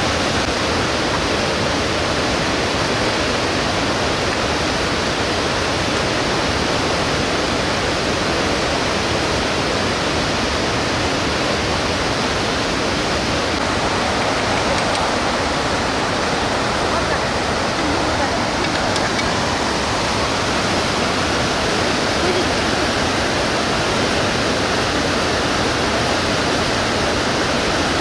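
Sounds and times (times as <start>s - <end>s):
river rapids rushing: 0.0s - 28.0s.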